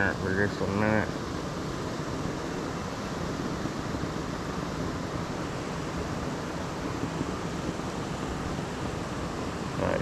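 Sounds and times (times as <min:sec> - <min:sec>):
water rushing over dam spillway: 0:00.0 - 0:10.0.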